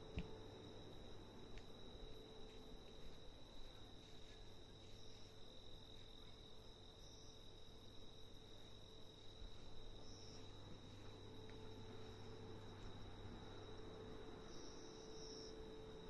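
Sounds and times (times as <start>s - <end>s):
insect calling: 0.0s - 16.0s
insect chirp: 0.0s - 16.0s.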